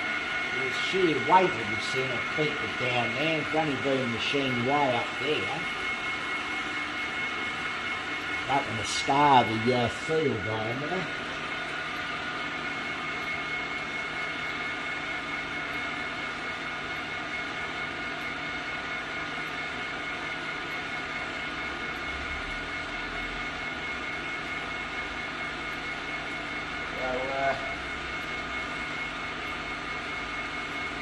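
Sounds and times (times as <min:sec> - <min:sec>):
lathe running with hum and whine: 0:00.0 - 0:31.0.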